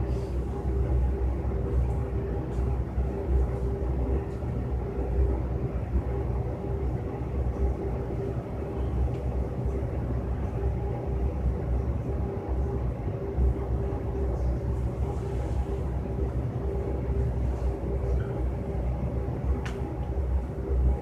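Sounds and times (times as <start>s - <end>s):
low mechanical rumble and hum: 0.0s - 21.0s.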